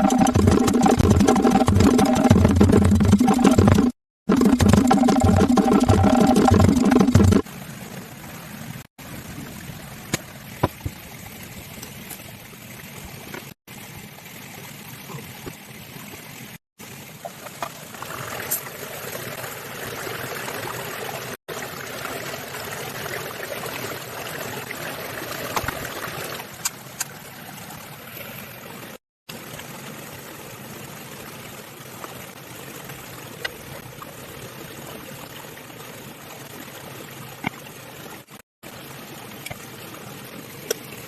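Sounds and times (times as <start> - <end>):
water trickling and splashing: 4.4 - 41.0.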